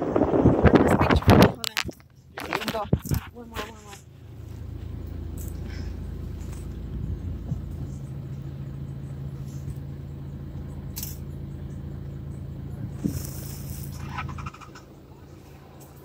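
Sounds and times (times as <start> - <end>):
vehicle engine idling: 1.6 - 16.0.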